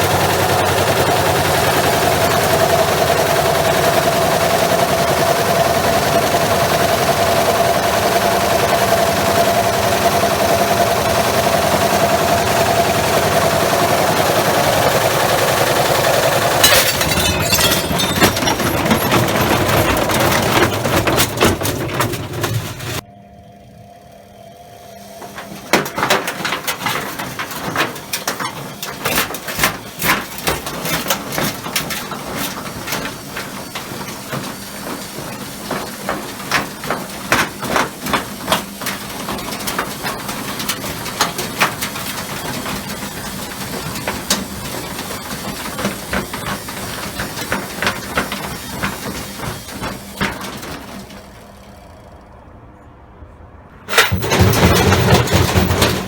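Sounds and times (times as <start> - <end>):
heavy load knocking in drum: 0.0 - 23.0, 25.3 - 51.4, 53.8 - 56.0
washing machine spinning whine: 0.0 - 52.6.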